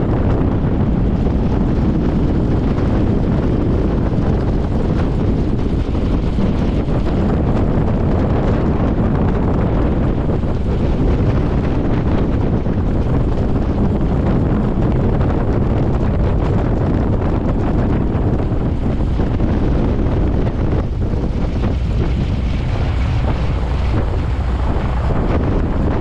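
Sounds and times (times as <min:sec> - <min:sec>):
plane engine low rumble: 0:00.0 - 0:26.0
propeller wash wind noise: 0:00.0 - 0:26.0.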